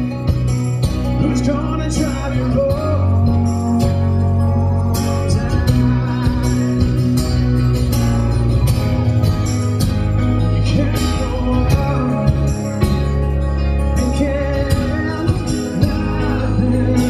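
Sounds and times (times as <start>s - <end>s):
acoustic guitars strummed: 0.0s - 17.0s
man singing: 1.0s - 9.1s, 10.2s - 17.0s.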